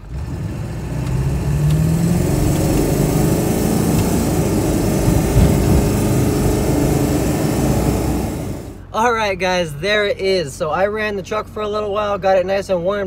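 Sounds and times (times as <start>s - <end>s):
diesel engine running: 0.0s - 13.0s
road and wind noise: 0.0s - 13.0s.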